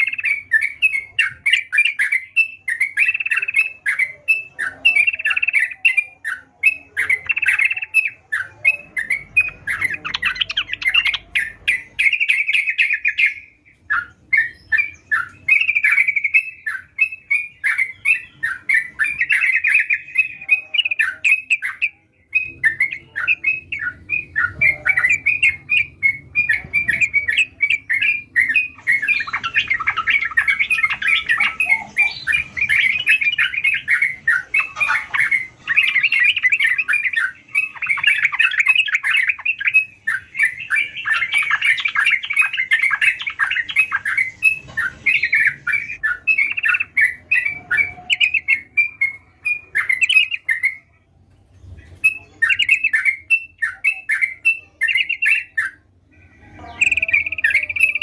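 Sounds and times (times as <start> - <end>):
bird singing bubbly chattering phrases: 0.0 - 51.0, 51.7 - 58.0.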